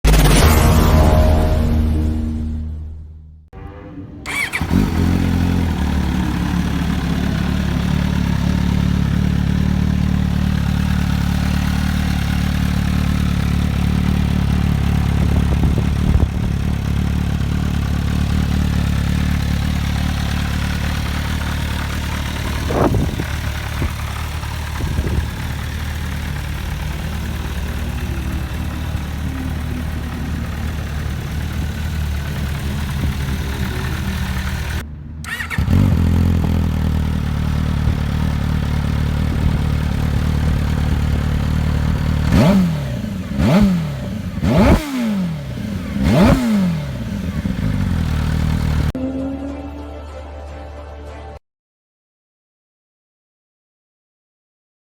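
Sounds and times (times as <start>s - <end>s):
engine revving: 0.0s - 49.0s
motorcycle engine starting and idling: 3.6s - 49.0s.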